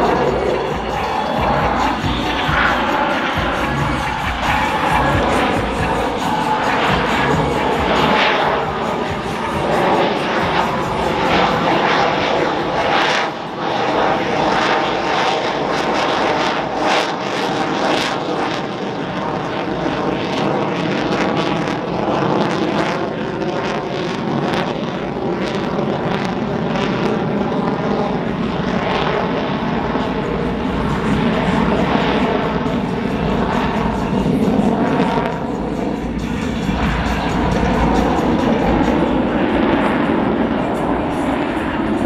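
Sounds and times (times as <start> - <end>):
jet engine roar overhead: 0.0 - 42.0.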